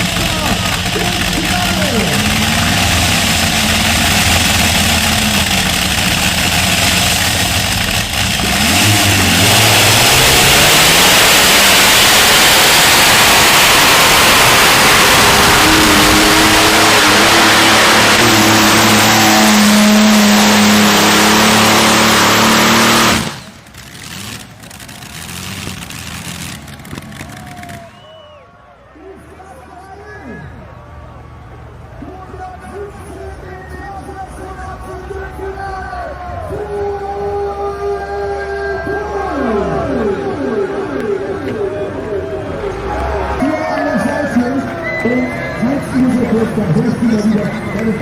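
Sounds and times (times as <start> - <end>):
pulling tractor engines roaring: 0.0 - 48.0.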